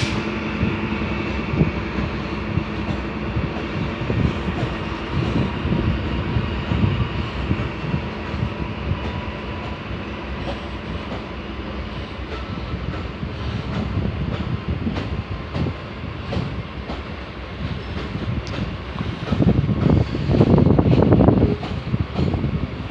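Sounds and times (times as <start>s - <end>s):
train rumbling past: 0.0s - 22.9s.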